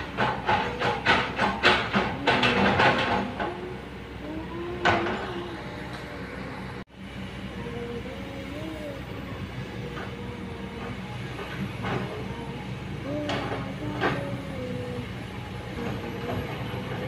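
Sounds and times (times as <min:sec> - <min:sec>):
excavator engine droning: 0:00.0 - 0:17.0.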